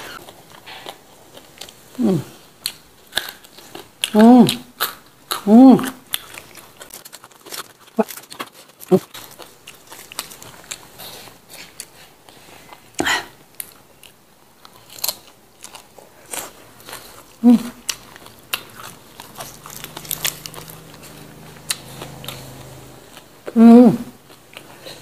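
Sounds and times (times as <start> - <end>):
crunching and chewing vegetables: 0.0 - 25.0.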